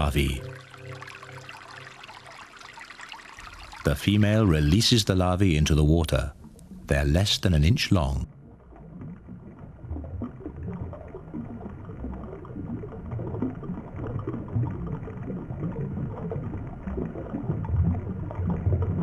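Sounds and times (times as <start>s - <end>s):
muffled underwater stream gurgling: 0.0s - 19.0s.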